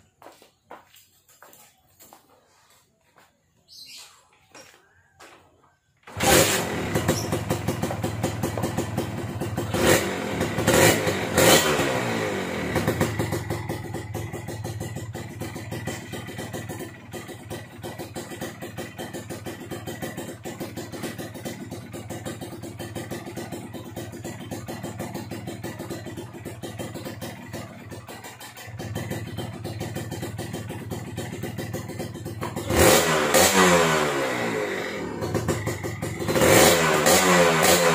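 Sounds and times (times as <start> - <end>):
motorcycle engine idling: 6.0 - 37.9
motorcycle engine kick-started: 6.0 - 37.9
motorcycle engine revving: 6.1 - 37.9.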